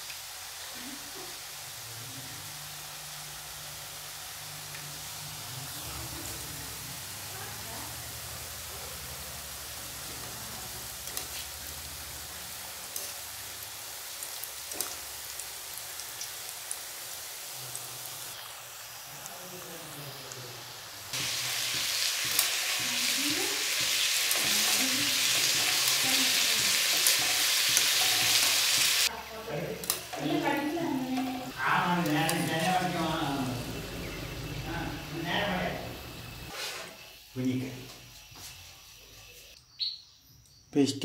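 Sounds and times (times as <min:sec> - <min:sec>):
dough sizzling in hot oil: 0:00.0 - 0:39.6.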